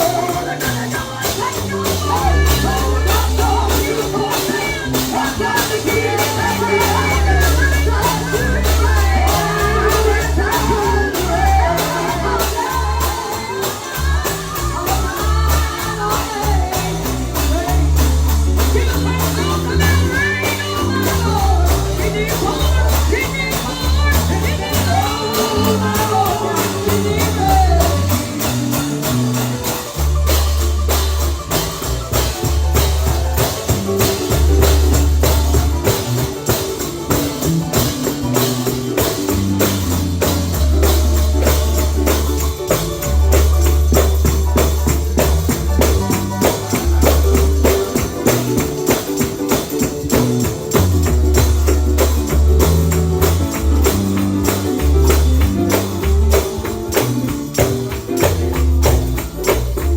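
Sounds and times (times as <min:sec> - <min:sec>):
repeating bass line: 0:00.0 - 0:59.9
tambourine beat: 0:00.0 - 0:59.9.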